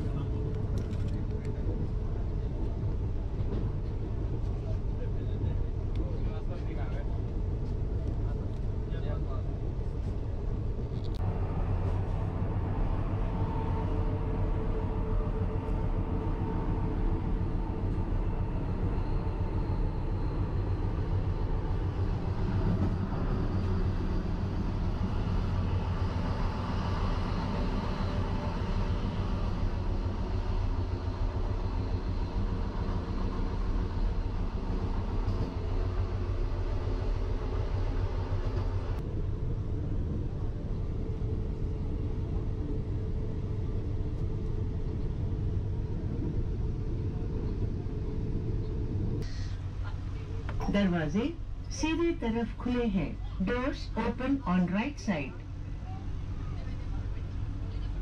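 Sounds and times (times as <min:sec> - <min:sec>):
train rumbling inside coach: 0:00.0 - 0:58.0.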